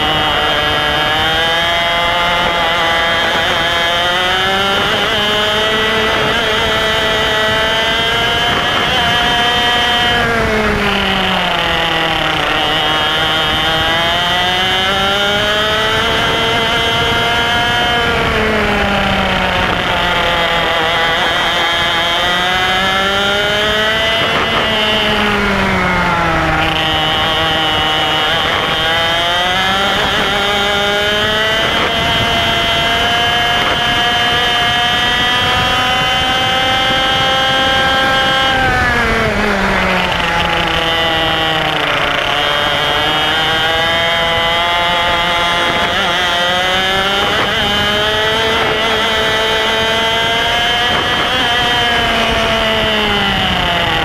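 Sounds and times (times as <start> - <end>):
kart engine at racing speed: 0.0 - 54.0.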